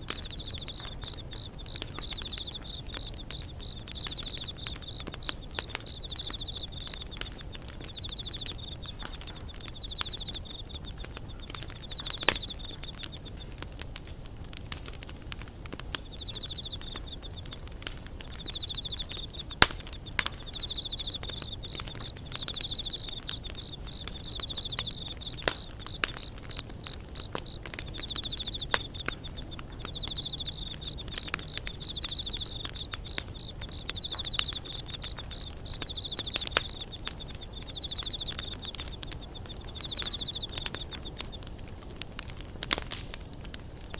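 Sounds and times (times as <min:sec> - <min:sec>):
campfire crackling and popping: 0:00.0 - 0:43.9
insects chirring: 0:00.0 - 0:43.9.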